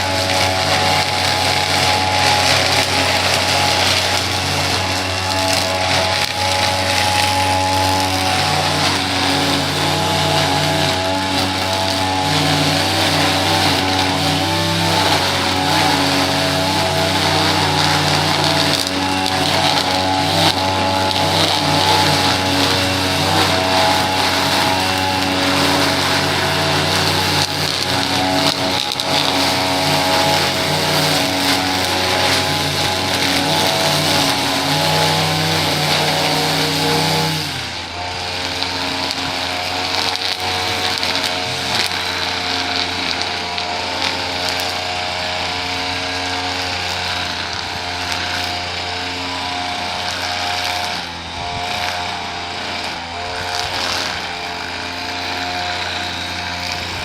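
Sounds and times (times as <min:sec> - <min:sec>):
small petrol engine running: 0:00.0 - 0:57.0.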